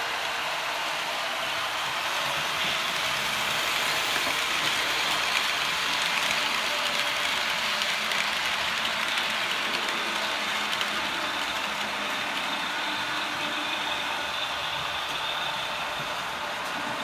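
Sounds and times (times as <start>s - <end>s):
model train wheels and motor whirring: 0.0s - 17.0s.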